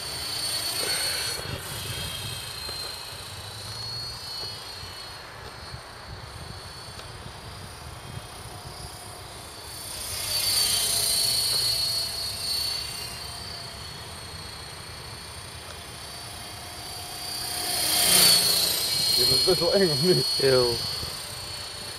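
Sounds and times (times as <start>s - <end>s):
low hum: 0.0s - 21.9s
rc helicopter motor whine: 0.0s - 21.9s.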